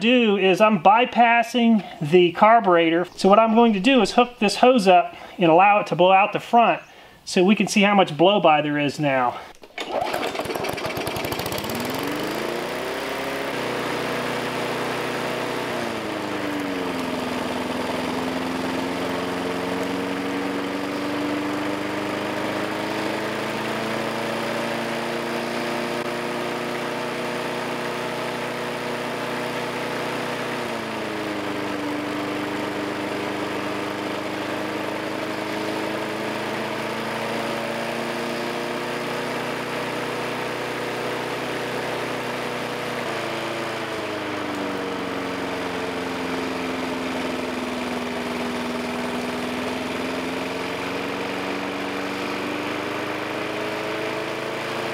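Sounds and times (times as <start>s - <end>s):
lawn mower engine running: 9.4s - 54.9s.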